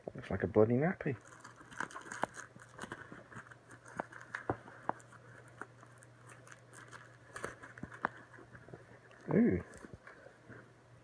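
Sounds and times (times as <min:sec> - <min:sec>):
packaging rustling: 0:01.2 - 0:10.5.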